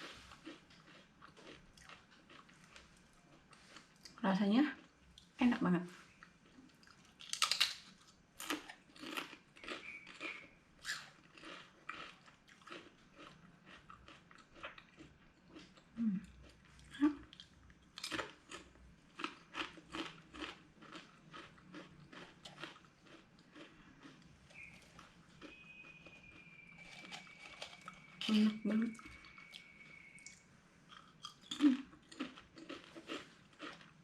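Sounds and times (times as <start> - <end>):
person chewing crunchy snack: 0.0 - 4.2, 6.2 - 34.0.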